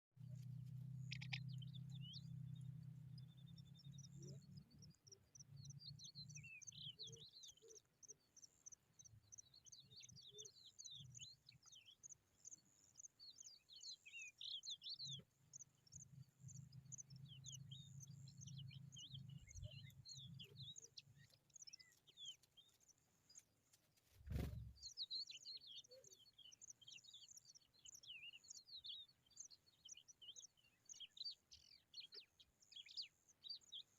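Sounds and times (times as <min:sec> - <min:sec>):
small birds chirping: 0:00.2 - 0:33.9.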